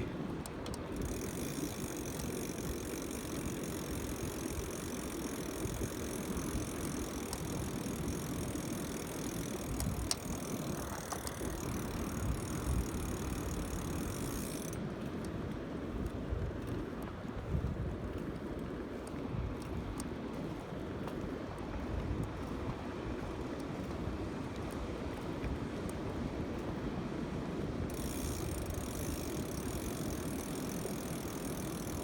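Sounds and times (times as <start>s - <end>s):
bike rolling noise: 0.0s - 26.8s, 27.4s - 32.0s
wind on microphone: 0.0s - 26.8s.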